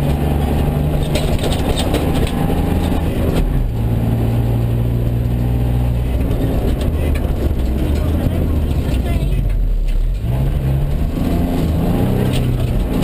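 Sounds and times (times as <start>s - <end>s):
car engine running hard: 0.0s - 13.0s
sharp clicks and rattles: 0.0s - 13.0s.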